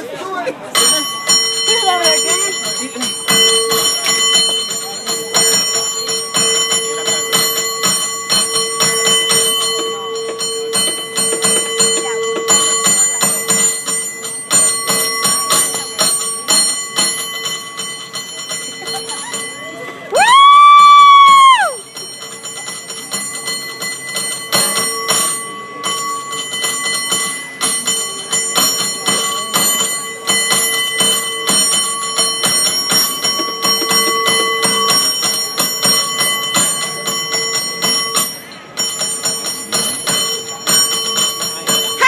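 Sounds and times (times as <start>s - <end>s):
cable car bell ringing: 0.0s - 42.0s.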